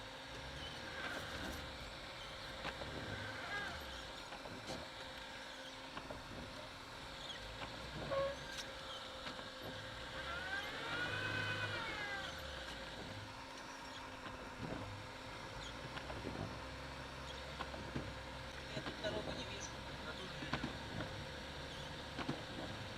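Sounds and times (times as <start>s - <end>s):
car engine and cabin drone: 0.0s - 22.9s.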